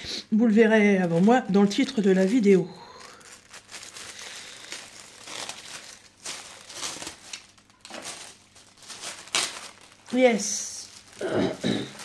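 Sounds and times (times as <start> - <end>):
plastic bag crinkling: 0.5 - 12.0.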